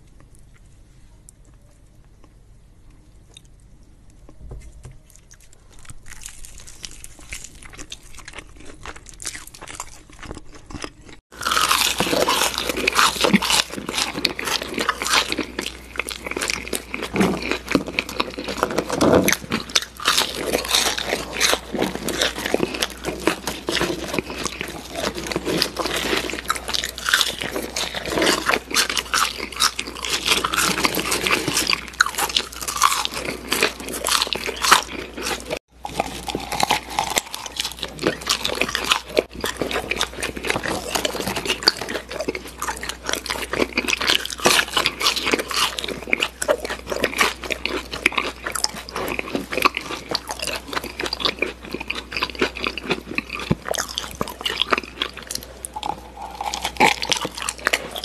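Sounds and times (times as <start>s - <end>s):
crunching and chewing food: 0.0s - 58.0s.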